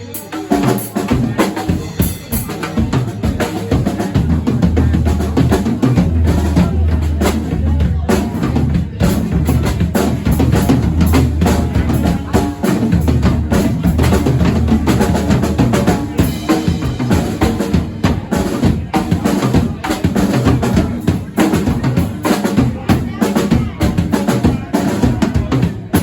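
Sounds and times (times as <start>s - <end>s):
drum-driven music with bass: 0.0s - 26.0s.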